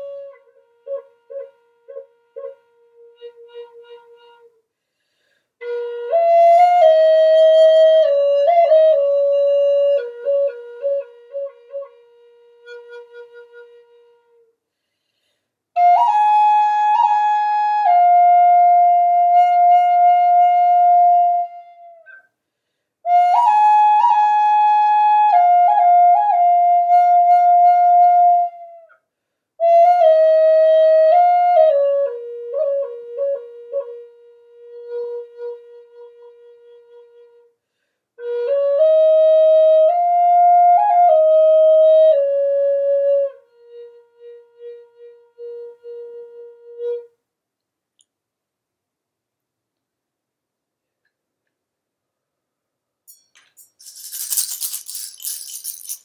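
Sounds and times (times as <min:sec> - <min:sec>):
solo flute: 0:00.0 - 0:14.6, 0:15.7 - 0:22.4, 0:23.0 - 0:47.3.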